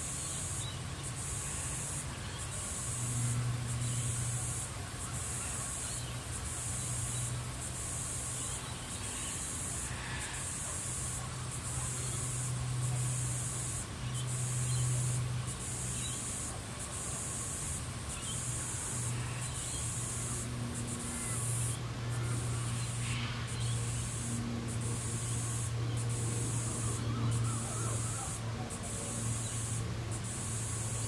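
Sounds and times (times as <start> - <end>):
insect chorus hissing drone: 0.0 - 31.0
steady low hum: 0.0 - 31.0.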